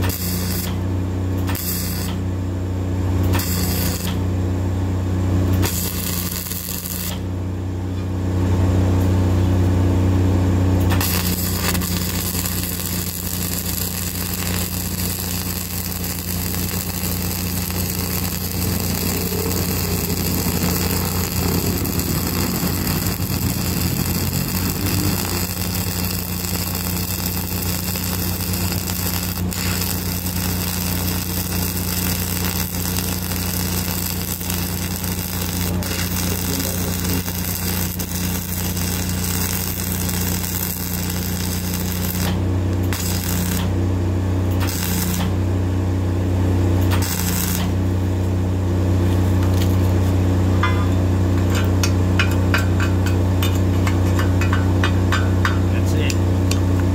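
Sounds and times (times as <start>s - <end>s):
welding arc crackling: 0.0s - 0.8s, 1.4s - 2.2s, 3.2s - 4.3s, 5.5s - 7.3s, 10.8s - 45.8s, 46.7s - 56.9s
low machine hum: 0.0s - 56.9s.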